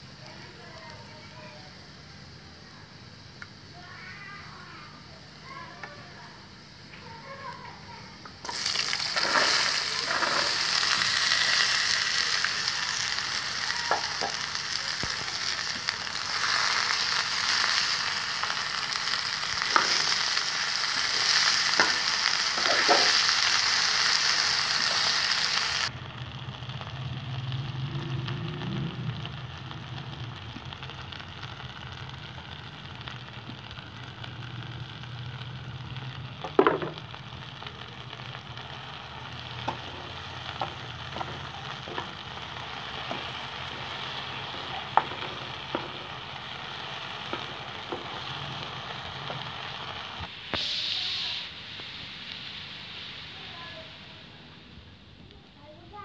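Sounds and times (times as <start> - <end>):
potatoes sizzling in hot oil: 3.2 - 54.5.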